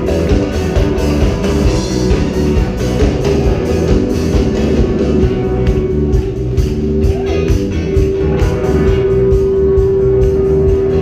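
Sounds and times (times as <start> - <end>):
drum beat: 0.0 - 11.0
electric guitars strummed: 0.0 - 11.0.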